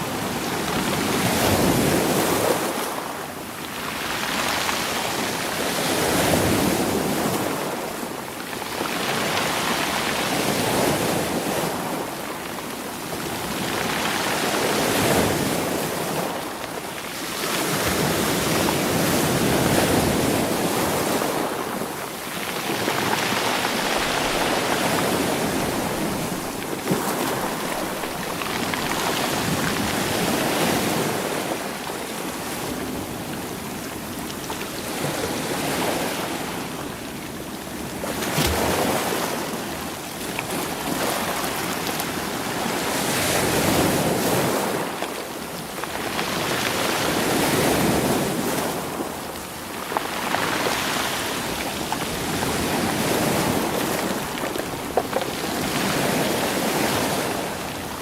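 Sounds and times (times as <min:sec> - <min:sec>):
sea waves washing over stones: 0:00.0 - 0:58.0.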